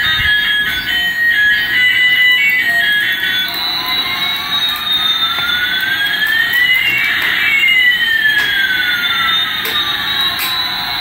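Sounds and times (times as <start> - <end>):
toy jet engine sound effect: 0.0 - 11.0.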